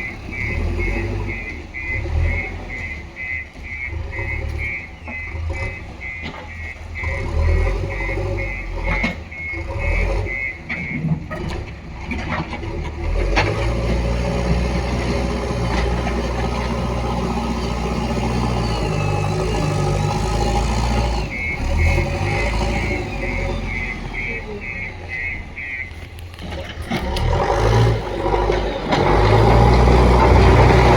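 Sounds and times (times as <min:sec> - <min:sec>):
reversing alarm beeping: 0:00.0 - 0:12.2, 0:13.1 - 0:26.4
diesel engine under load: 0:00.0 - 0:30.9.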